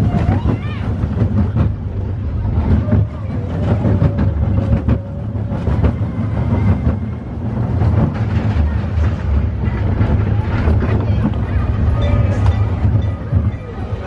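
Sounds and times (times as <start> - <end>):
roller coaster wheels rumbling: 0.0 - 14.0
track clacks: 0.0 - 14.0.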